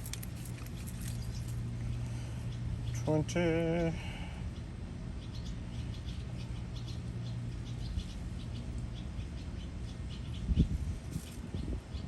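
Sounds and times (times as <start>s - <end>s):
low steady hum: 0.0s - 12.0s
small birds chirping: 0.0s - 12.0s.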